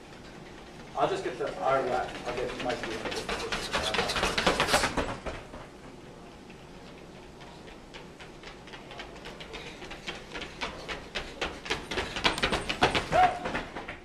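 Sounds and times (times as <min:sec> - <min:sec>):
running footsteps on hard floor: 0:00.0 - 0:14.0.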